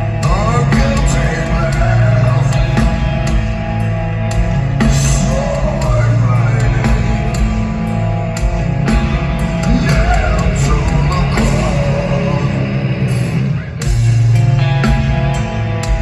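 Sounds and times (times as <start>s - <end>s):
heavy metal band playing live: 0.0s - 16.0s.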